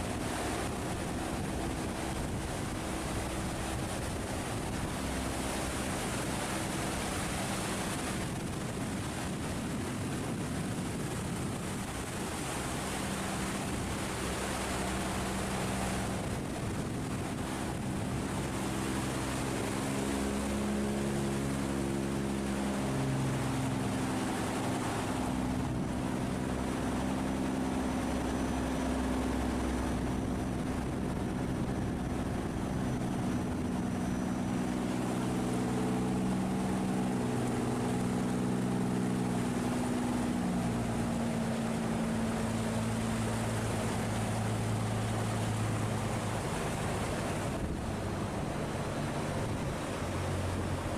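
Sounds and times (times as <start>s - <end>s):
boat engines humming: 0.0s - 50.9s
rushing water: 0.0s - 50.9s.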